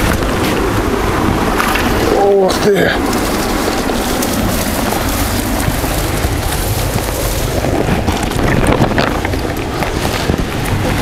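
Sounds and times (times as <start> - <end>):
wind blowing across microphone: 0.0 - 11.0.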